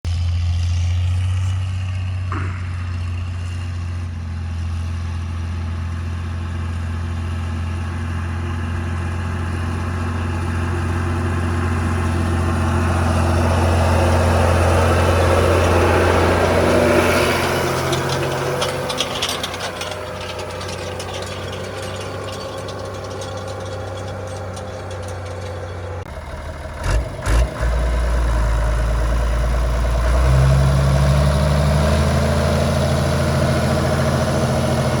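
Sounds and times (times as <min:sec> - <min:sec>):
diesel tractor engine running: 0:00.1 - 0:35.0.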